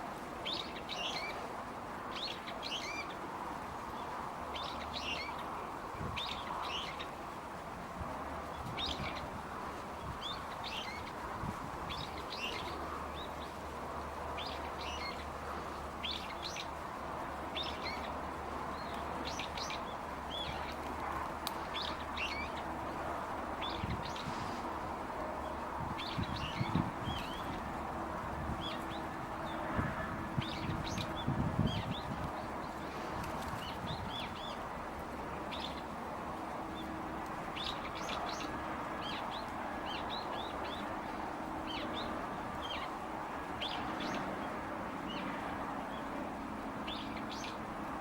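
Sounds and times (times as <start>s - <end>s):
steady background hiss: 0.0s - 48.0s.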